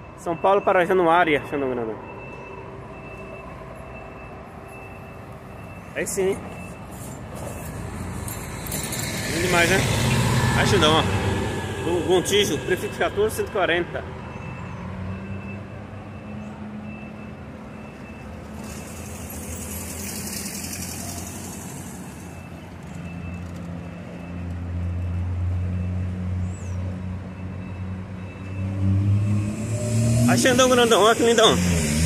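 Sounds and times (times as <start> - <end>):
bus diesel engine: 0.0 - 32.0.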